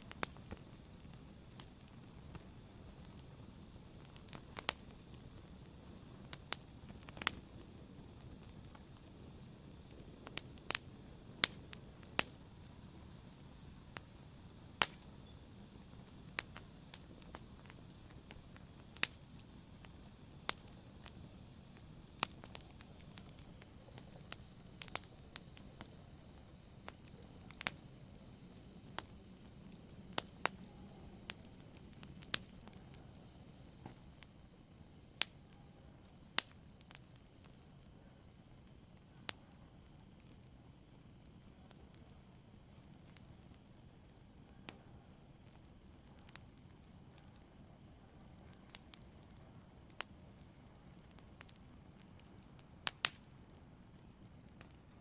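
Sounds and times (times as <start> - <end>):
low rumble of flame: 0.0 - 55.0
wood fire crackling and popping: 0.0 - 55.0.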